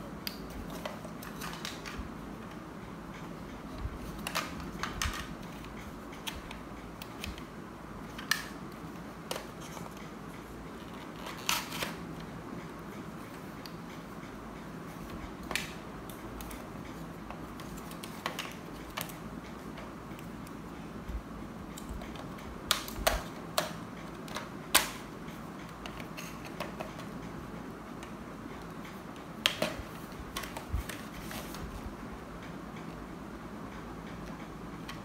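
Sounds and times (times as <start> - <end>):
steady low hiss: 0.0 - 35.0.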